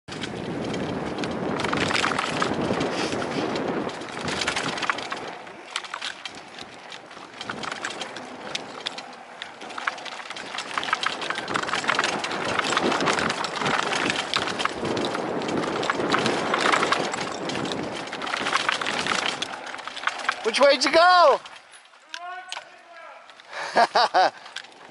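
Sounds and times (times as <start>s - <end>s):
bike rattling: 0.1s - 24.9s
tyres crunching over dirt and stones: 3.8s - 24.9s.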